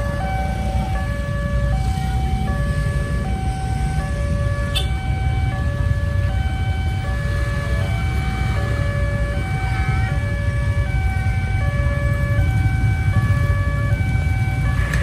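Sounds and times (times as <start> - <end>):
level crossing two-tone siren: 0.0 - 15.0
road traffic rumble: 0.0 - 15.0.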